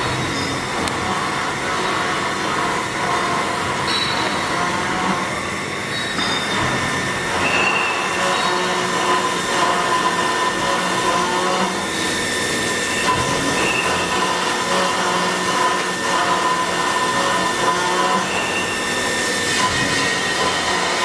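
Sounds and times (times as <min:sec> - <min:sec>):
milling machine cutting metal: 0:00.0 - 0:21.0.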